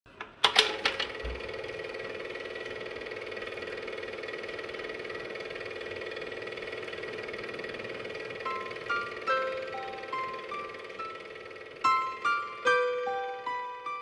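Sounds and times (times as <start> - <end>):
film projector chattering: 0.4 - 13.7
motor hum: 0.8 - 14.0.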